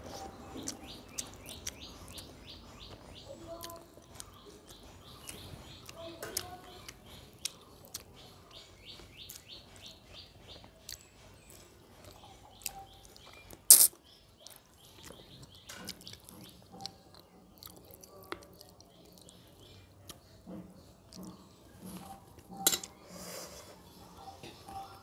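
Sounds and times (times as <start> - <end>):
chewing smacks: 0.0 - 23.0
small bird chirping: 0.0 - 25.0.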